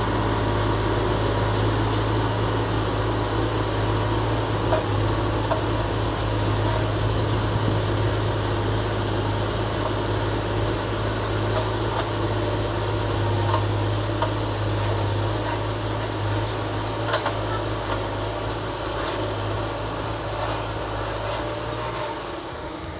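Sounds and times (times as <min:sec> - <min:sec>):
tractor diesel engine under load: 0:00.0 - 0:22.9.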